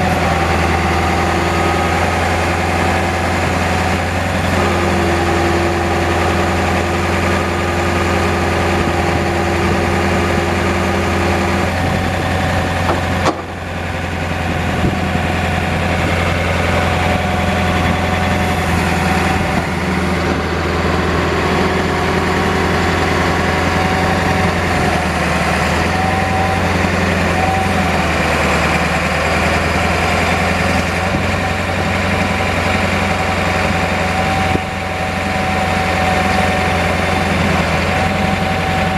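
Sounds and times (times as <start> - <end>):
diesel engine idling: 0.0 - 38.9
steady whine: 0.0 - 38.9.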